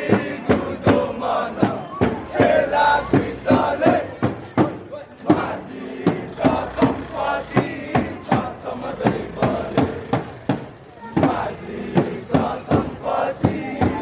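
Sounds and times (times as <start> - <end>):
crowd shouting and chanting: 0.0 - 14.0
drum beaten in steady rhythm: 0.0 - 14.0.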